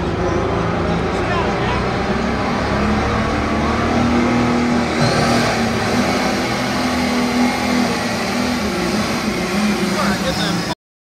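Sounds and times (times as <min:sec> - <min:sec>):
tractor engine running hard: 0:00.0 - 0:10.8.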